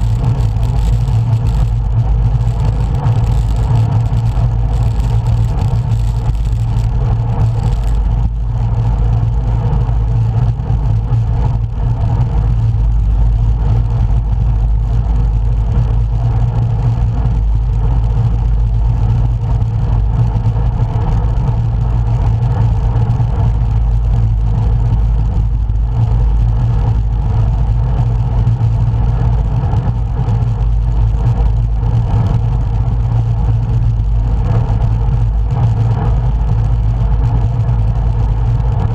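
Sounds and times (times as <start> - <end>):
wind rumble on microphone: 0.0 - 38.9.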